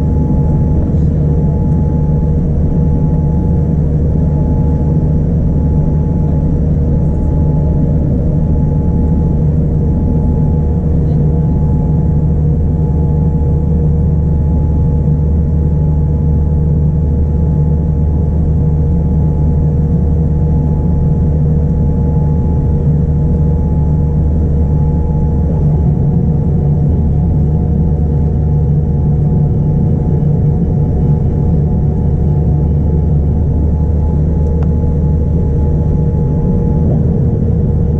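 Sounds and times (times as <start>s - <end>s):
aircraft engines rumbling: 0.0s - 37.9s
steady humming tones: 0.0s - 37.9s.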